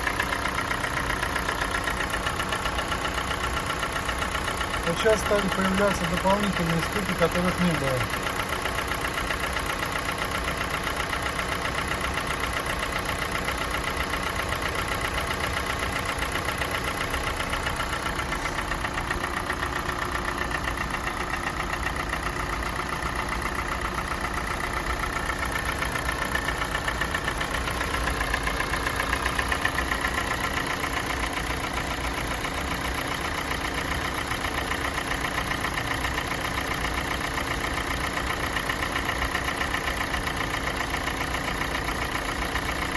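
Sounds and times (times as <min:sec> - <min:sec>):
car engine idling: 0:00.0 - 0:42.9
engine knocking: 0:00.0 - 0:42.9.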